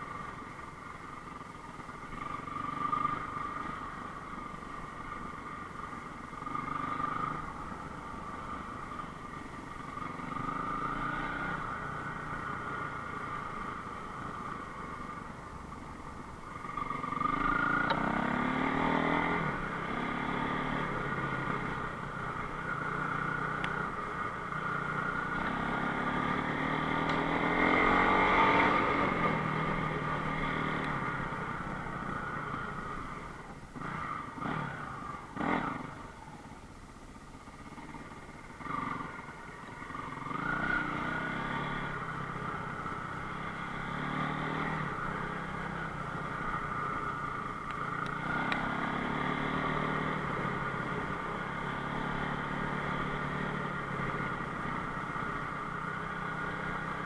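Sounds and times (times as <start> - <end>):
motorcycle engine revving: 1.2 - 36.6, 37.4 - 57.0.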